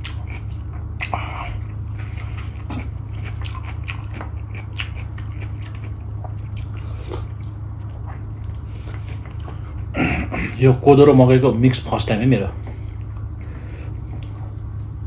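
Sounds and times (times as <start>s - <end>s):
person chewing: 0.0s - 10.6s, 12.6s - 15.0s
low hum: 0.0s - 15.0s.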